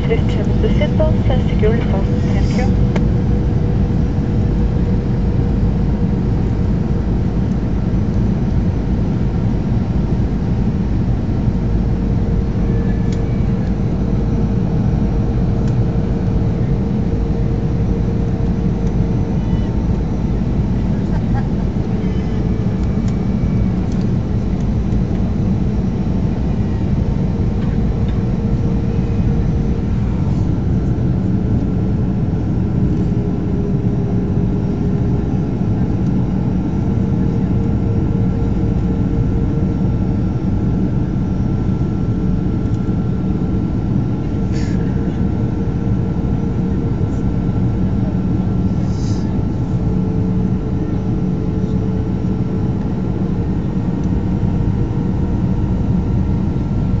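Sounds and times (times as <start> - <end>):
jet engines droning: 0.0 - 57.0
steady mid-pitched hum: 0.0 - 57.0.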